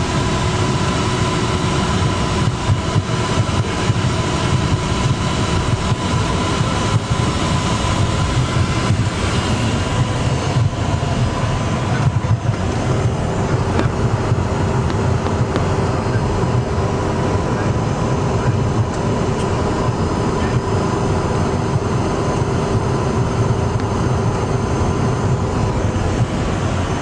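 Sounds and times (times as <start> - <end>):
jet cabin engine rumble: 0.0 - 27.0.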